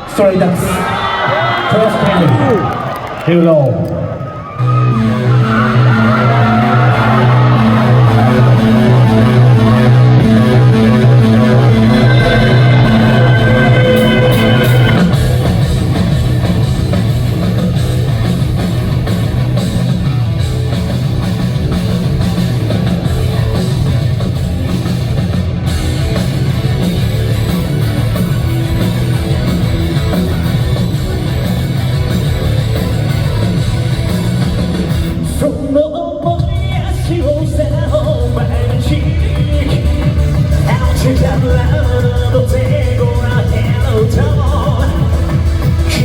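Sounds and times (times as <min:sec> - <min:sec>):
live rock band playing: 0:04.6 - 0:46.0.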